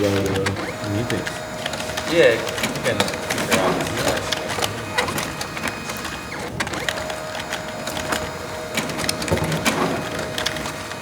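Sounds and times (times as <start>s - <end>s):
printer clattering clicks: 0.0s - 11.0s
printer whine: 0.0s - 11.0s.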